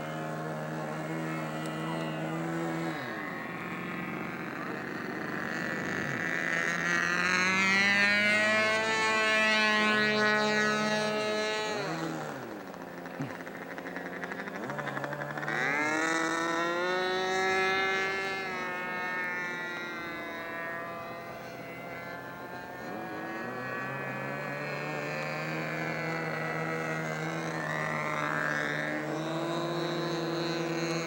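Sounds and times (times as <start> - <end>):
model plane engine flying by: 0.0 - 31.0.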